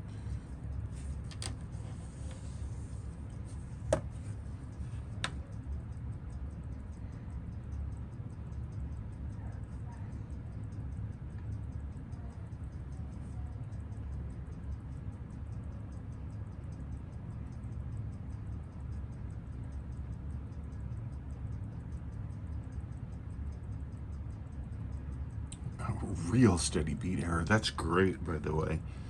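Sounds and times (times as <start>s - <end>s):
steady low hum: 0.0s - 29.0s
watch ticking rapidly: 4.4s - 29.0s.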